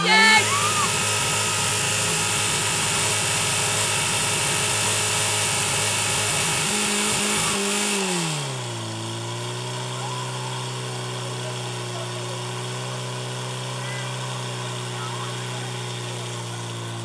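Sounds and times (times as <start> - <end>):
pump engine running at high revs: 0.0 - 17.0.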